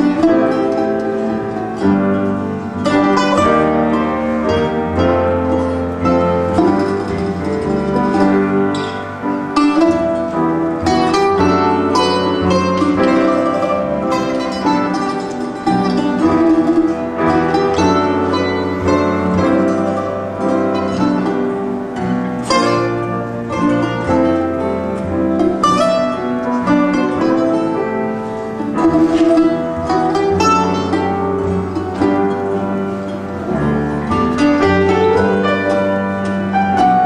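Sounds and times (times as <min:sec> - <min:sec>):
acoustic guitar waltz: 0:00.0 - 0:37.0
second string instrument: 0:00.0 - 0:37.0.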